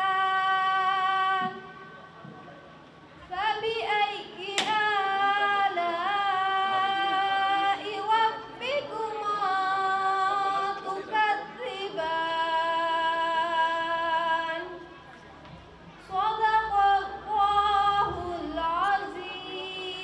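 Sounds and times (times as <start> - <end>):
girl singing into a microphone: 0.0 - 2.0, 3.2 - 14.8, 16.0 - 20.0.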